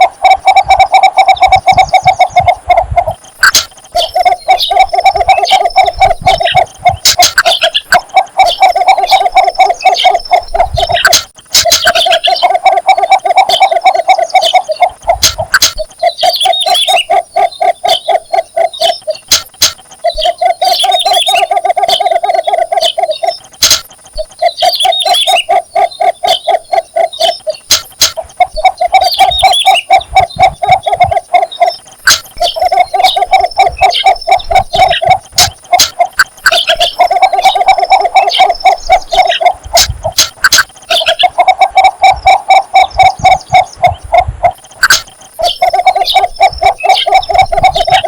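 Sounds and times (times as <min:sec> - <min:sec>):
bittern low rapid clucking: 0:00.0 - 0:48.0
high insect-like tone: 0:00.0 - 0:48.0
higher bird chirps: 0:00.0 - 0:48.0.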